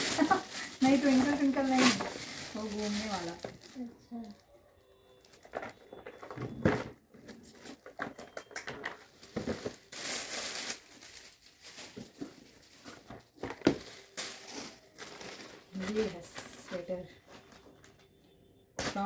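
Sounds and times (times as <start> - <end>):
gift wrapping crinkling and tearing: 0.0 - 4.4, 7.1 - 18.0.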